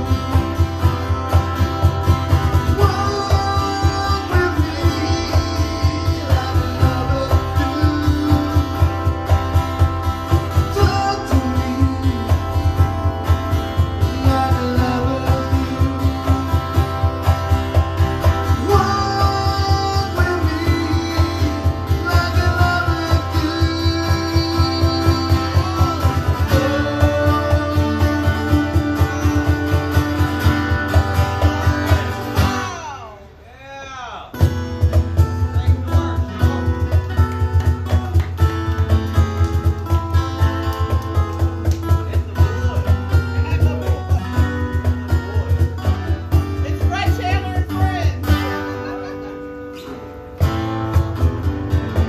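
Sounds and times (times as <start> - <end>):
acoustic guitars strumming: 0.0 - 33.6, 34.2 - 52.0.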